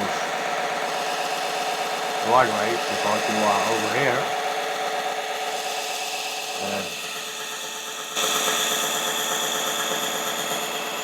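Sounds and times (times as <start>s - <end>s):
belt sander hum and whine: 0.0s - 11.0s.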